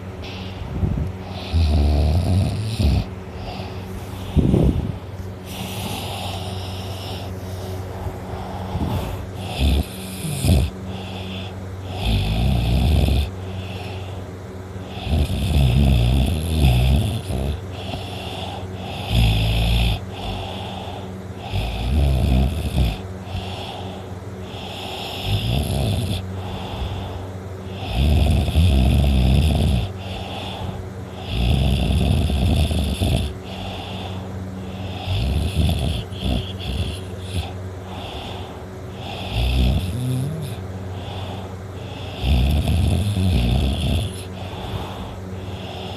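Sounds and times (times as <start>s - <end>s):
quiet breaths: 0.0s - 45.9s
boy snoring loudly: 1.2s - 7.3s, 8.4s - 14.1s, 14.8s - 45.9s.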